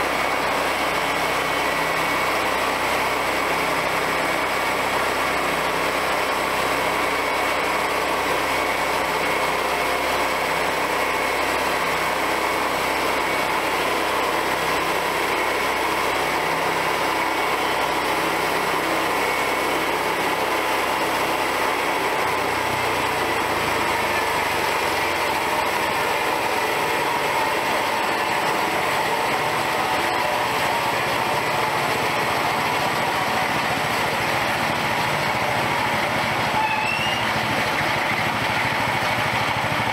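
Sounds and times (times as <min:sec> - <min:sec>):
saw cutting log: 0:00.0 - 0:38.4
small gasoline engine running: 0:00.0 - 0:39.9.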